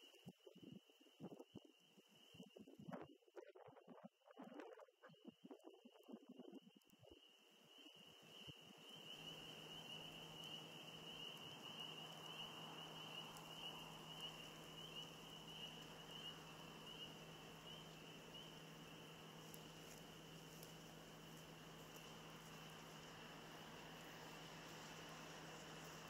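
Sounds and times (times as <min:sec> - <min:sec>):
low steady hum: 0:04.3 - 0:26.0.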